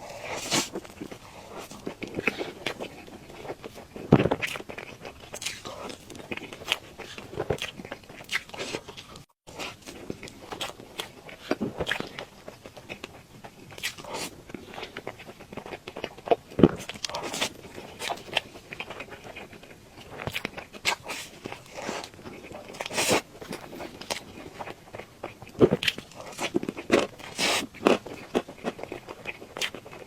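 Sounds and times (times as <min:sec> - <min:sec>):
person chewing cake: 0:00.0 - 0:30.0.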